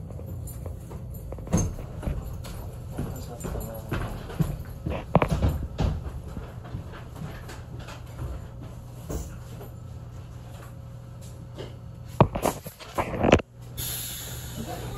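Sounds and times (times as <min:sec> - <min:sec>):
low hum inside tram: 0:00.0 - 0:14.9.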